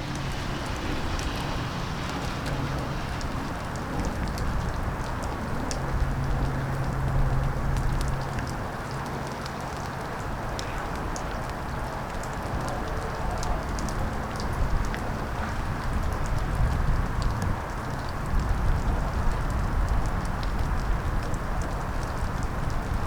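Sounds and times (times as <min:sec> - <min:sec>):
rain drop ticks: 0:00.0 - 0:23.0
steady rain falling: 0:00.0 - 0:23.0.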